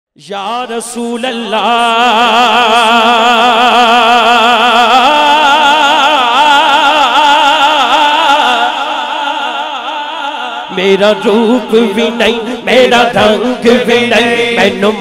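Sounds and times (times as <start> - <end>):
man singing unaccompanied: 0.2 - 15.0.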